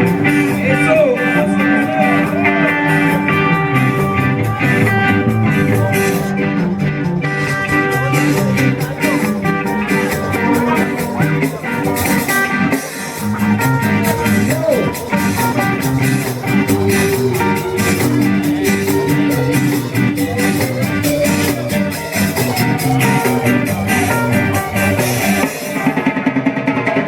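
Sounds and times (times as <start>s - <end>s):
ska band music: 0.0s - 27.0s.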